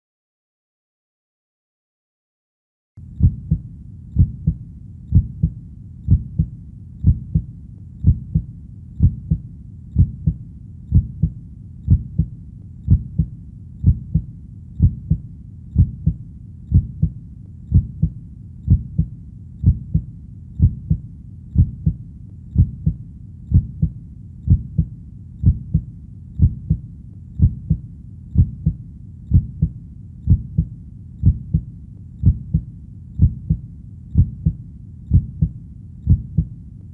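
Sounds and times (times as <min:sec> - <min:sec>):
faint low background: 0:03.0 - 0:36.9
heartbeat: 0:03.0 - 0:36.9.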